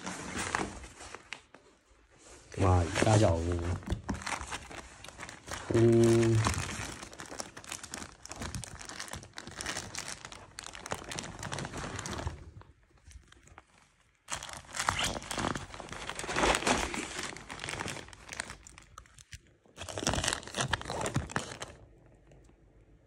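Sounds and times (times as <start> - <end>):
plastic bag crinkling: 2.5 - 22.4.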